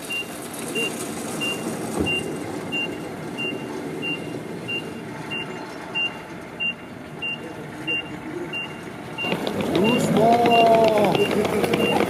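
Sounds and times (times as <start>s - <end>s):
forklift engine running: 0.0s - 12.0s
reversing alarm beeping: 0.0s - 12.0s.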